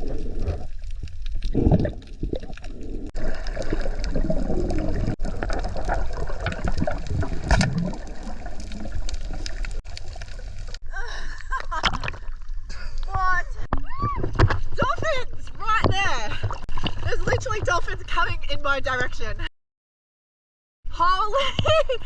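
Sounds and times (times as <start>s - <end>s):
water sloshing and gurgling: 0.0s - 18.5s.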